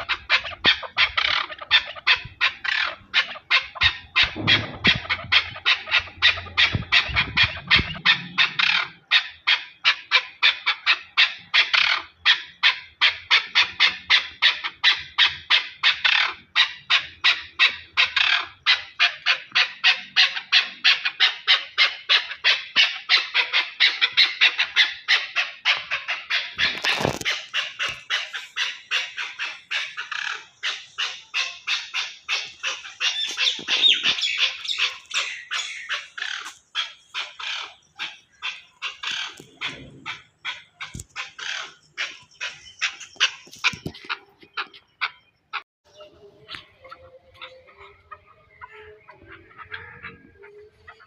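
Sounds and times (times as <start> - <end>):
partridge clucking calls: 0.0 - 51.0.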